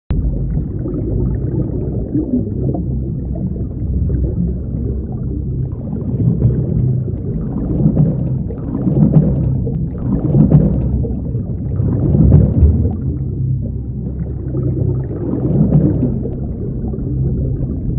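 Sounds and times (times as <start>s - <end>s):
underwater regulator bubbles rumbling: 0.1s - 17.9s.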